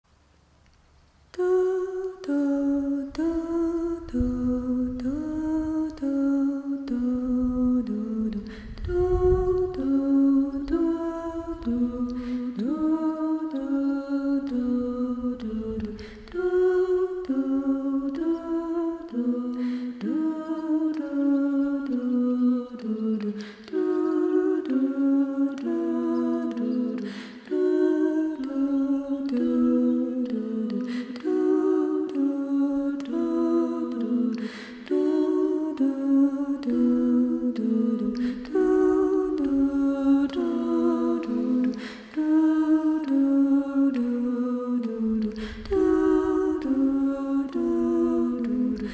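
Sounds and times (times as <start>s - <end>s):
person humming a slow melody: 1.3s - 48.9s.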